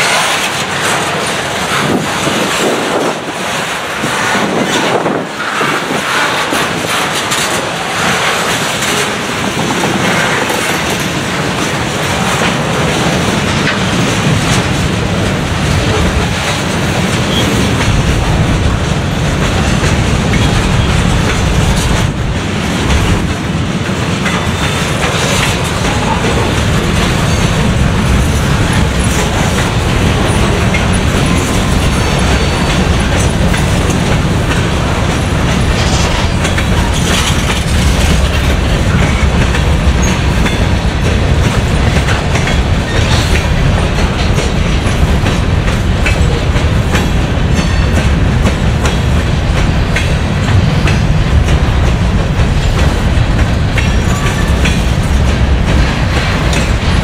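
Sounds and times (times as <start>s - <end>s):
train rolling noise: 0.0s - 57.0s
wheels clicking over rail joints: 0.0s - 57.0s.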